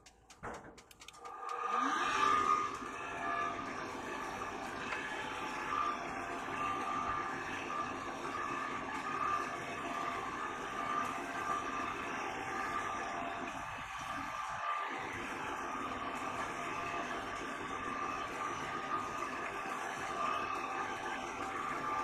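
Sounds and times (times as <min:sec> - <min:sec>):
vacuum cleaner motor whining: 0:01.3 - 0:22.0.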